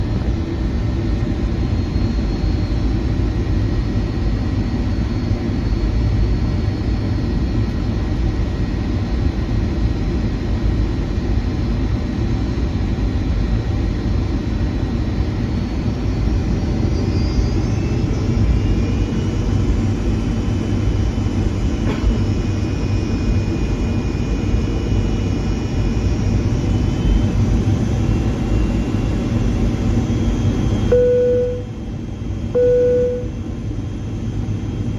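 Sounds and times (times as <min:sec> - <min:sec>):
faint whining engine tones: 0:00.0 - 0:34.9
jet cabin engine rumble: 0:00.0 - 0:34.9.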